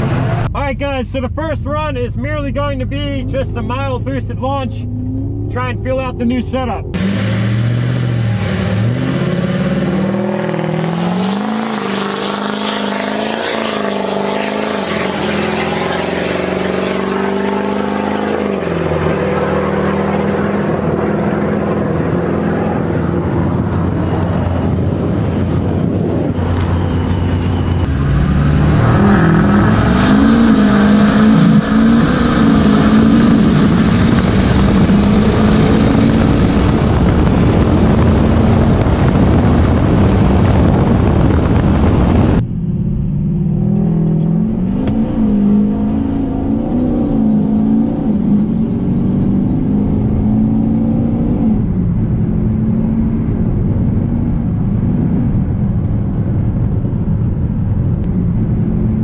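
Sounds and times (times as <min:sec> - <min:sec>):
diesel pickup accelerating: 0:00.0 - 0:59.0.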